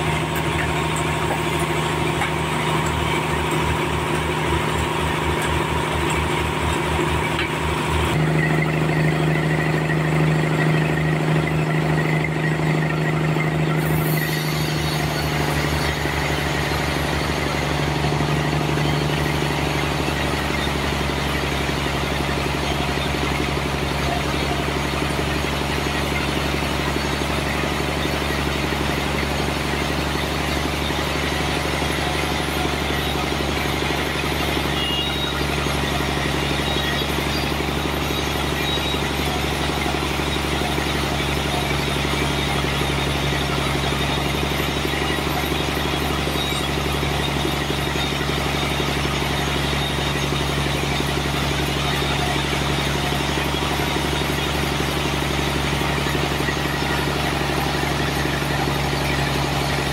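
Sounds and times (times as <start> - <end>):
sawmill engine pulsing: 0.0 - 59.9.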